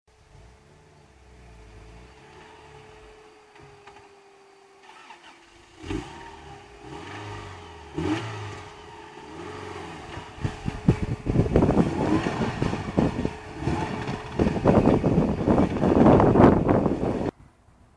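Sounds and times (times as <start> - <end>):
car engine idling: 0.1 - 17.6
engine revving: 0.2 - 4.2, 4.8 - 17.3.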